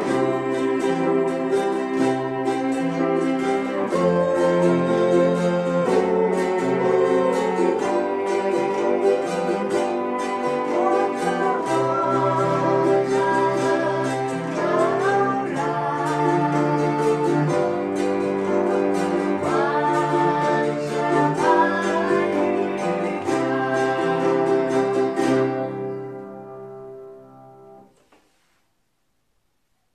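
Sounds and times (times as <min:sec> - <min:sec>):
voices humming: 0:00.0 - 0:26.3
bowed cello: 0:00.0 - 0:27.8
piano: 0:00.0 - 0:27.9
strummed ukulele chords: 0:00.0 - 0:28.0.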